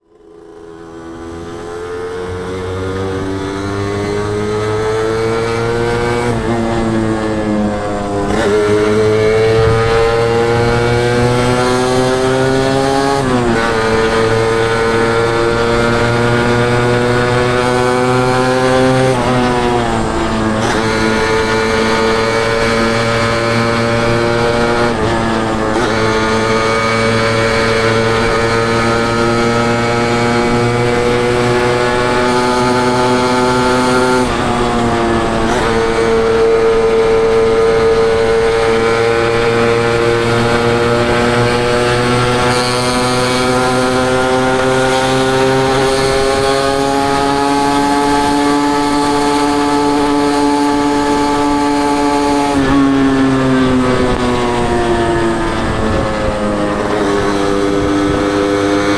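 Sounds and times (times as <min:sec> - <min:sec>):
motorcycle exhaust revving: 0:00.2 - 0:58.8.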